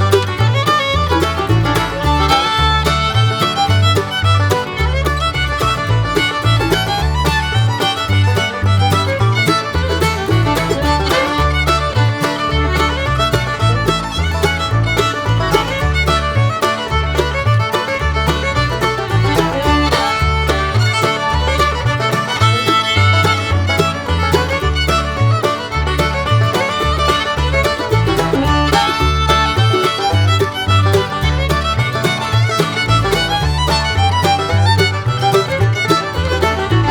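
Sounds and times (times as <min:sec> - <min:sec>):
bass line: 0:00.0 - 0:36.9
upbeat fiddle tune: 0:00.0 - 0:36.9.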